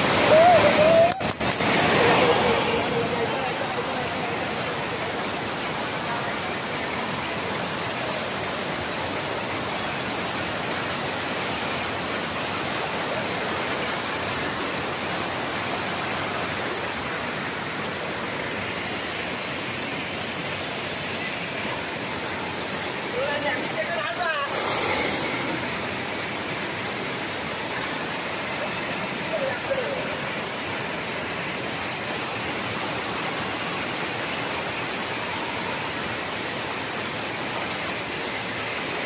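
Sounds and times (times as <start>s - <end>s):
water rushing over weir: 0.0s - 39.0s.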